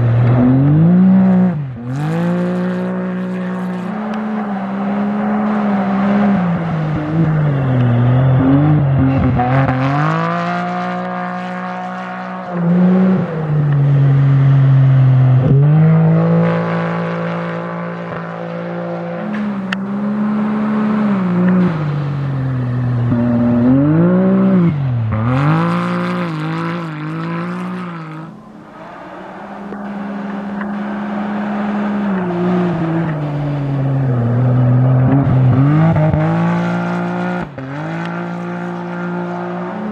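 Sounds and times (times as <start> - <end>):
rally vehicle engine revving: 0.0 - 39.9.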